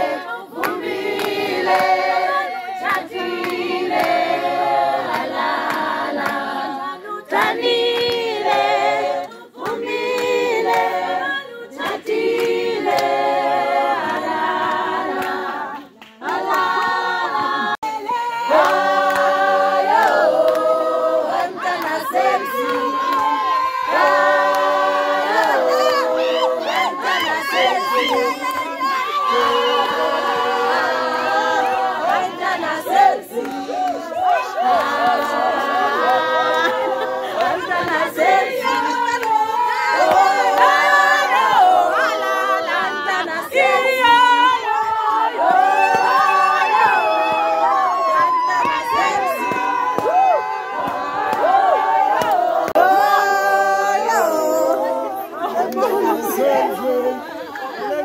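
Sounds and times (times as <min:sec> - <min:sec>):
group singing in harmony: 0:00.0 - 0:58.0.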